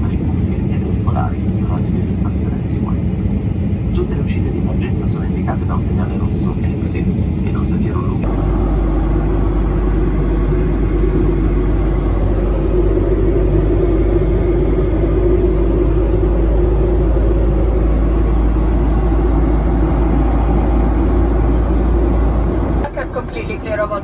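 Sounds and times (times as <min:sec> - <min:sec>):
airliner cabin hum and rush: 0:00.0 - 0:24.0.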